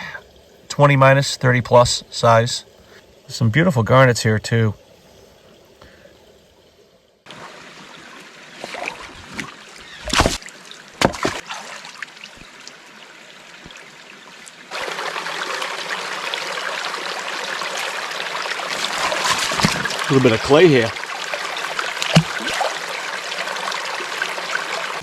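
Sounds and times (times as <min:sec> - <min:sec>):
brook water running over rocks: 0:00.0 - 0:25.0.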